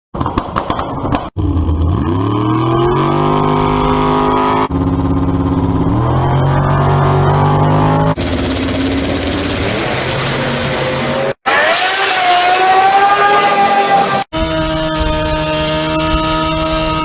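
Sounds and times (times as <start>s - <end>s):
vehicle engine revving: 1.3s - 17.0s.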